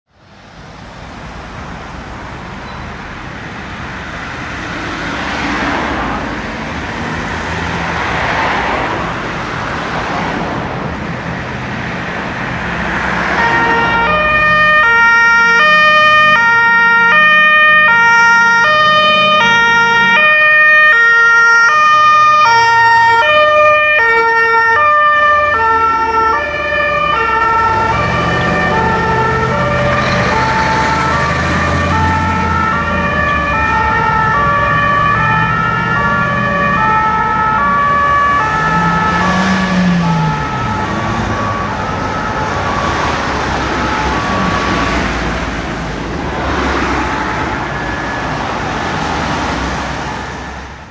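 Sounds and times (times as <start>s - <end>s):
heavy truck engines rumbling: 0.1s - 50.9s
two-tone fire truck sirens: 0.6s - 50.9s.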